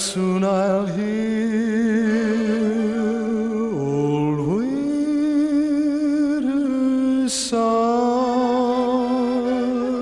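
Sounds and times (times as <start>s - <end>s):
man singing slow ballad: 0.0s - 10.0s.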